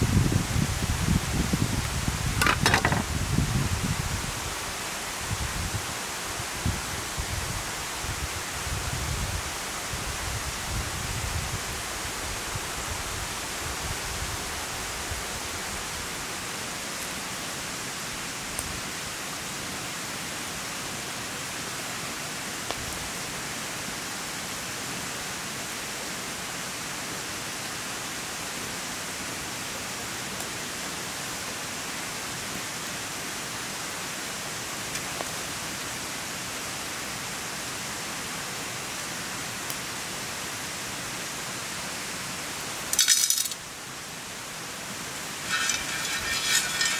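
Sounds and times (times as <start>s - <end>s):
forest stream rushing: 0.0s - 46.9s.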